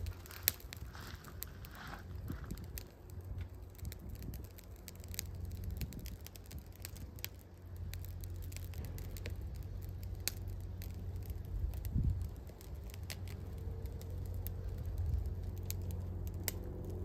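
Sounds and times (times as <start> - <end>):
fire crackling and popping: 0.0 - 17.0
low steady fire rumble: 0.0 - 17.0.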